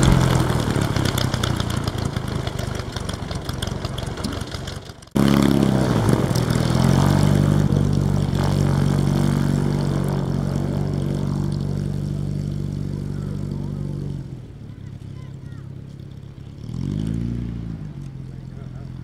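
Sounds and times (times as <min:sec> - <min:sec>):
propeller plane engine revving: 0:00.0 - 0:19.0.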